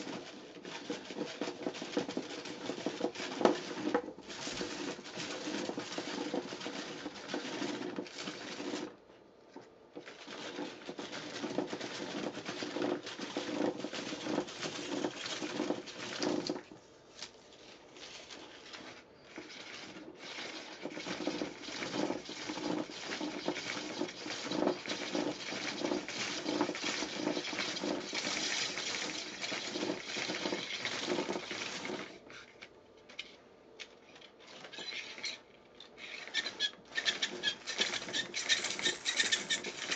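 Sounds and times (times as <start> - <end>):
film winding onto plastic spiral: 0.0 - 9.0, 10.0 - 16.7, 17.6 - 39.9.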